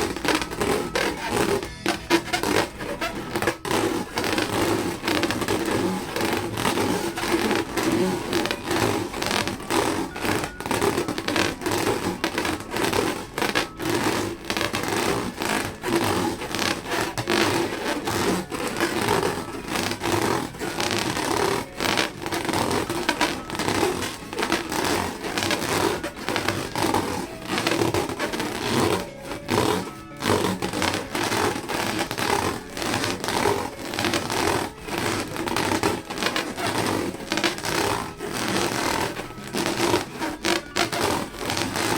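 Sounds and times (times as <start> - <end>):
rubber balloons being rubbed: 0.0 - 41.9.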